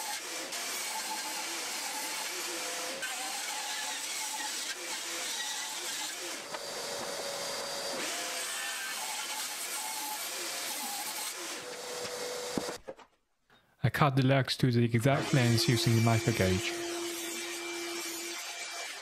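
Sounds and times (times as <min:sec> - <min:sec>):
table saw ripping timber: 0:00.0 - 0:12.9, 0:15.2 - 0:19.0.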